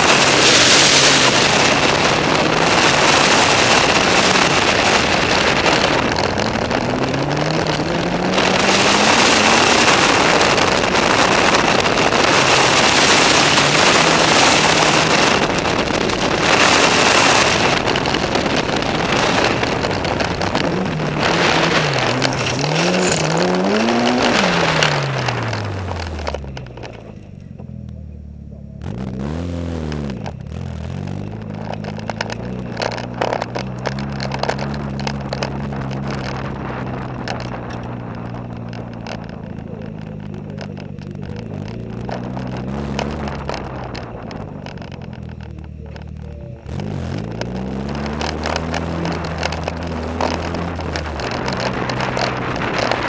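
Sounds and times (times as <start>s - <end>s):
wind rushing past microphone: 0.0s - 27.1s, 30.0s - 53.0s
car engine revving: 0.0s - 53.0s
tyres crackling over gravel: 0.0s - 53.0s.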